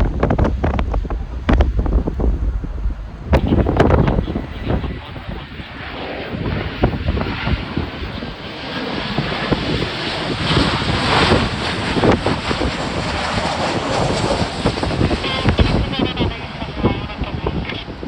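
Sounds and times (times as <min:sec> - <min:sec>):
jet airliner engine rush: 0:00.0 - 0:18.0
wind buffeting microphone: 0:00.0 - 0:18.0.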